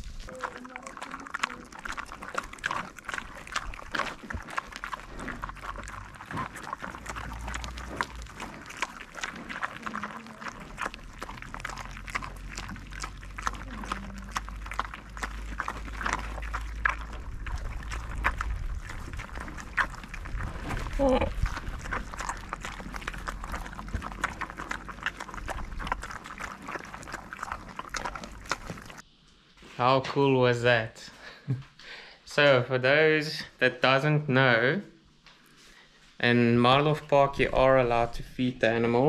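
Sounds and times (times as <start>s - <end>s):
warthogs crunching pellets: 0.0s - 29.0s, 36.4s - 39.0s.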